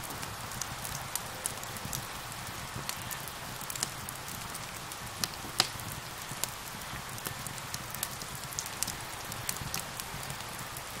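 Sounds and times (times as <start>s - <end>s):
steady rain: 0.0s - 11.0s
wood fire crackling: 0.0s - 11.0s.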